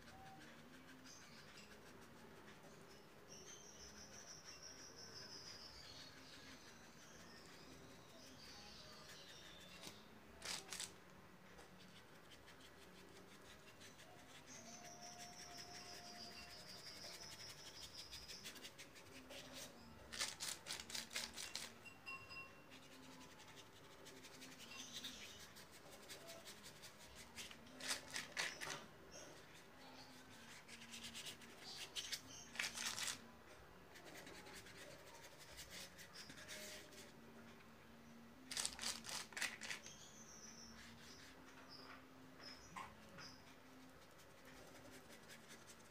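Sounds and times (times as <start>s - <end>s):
paintbrush scratching on board: 0.0s - 21.8s, 22.7s - 33.2s, 33.9s - 37.2s, 38.5s - 41.8s, 42.9s - 45.9s.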